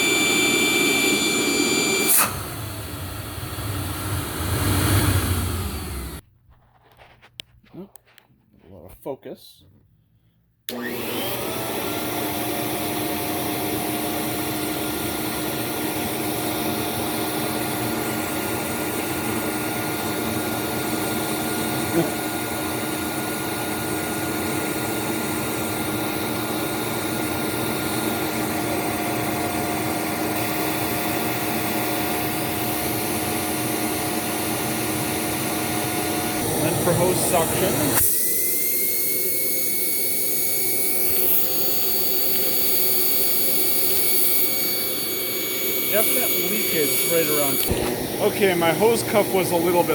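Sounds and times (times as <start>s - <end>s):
vacuum cleaner motor whining: 0.0s - 6.2s, 10.7s - 49.9s.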